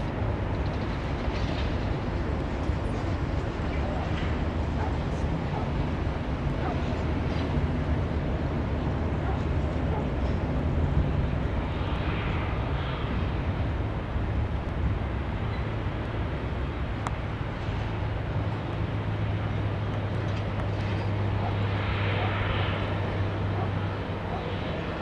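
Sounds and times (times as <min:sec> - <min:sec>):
distant jet engines rumbling: 0:00.0 - 0:25.0.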